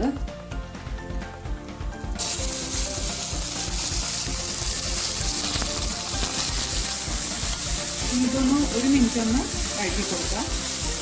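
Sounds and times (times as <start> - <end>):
background music with steady beat: 0.0 - 11.0
paste sizzling in hot oil: 2.1 - 11.0.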